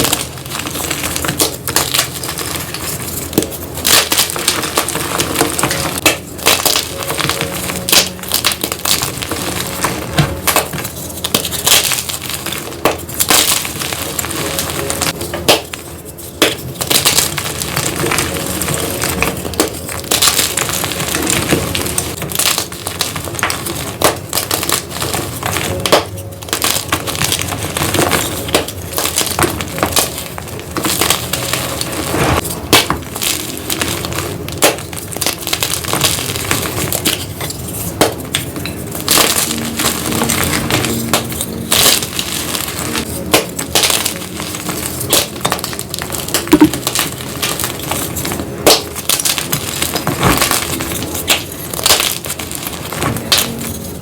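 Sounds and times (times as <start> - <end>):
chalk blocks crunching and cracking: 0.0 - 54.0.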